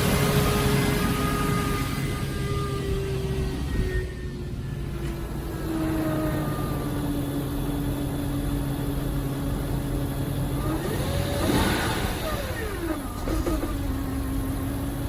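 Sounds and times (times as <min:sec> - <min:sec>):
vehicle engine whining and revving: 0:00.0 - 0:15.0.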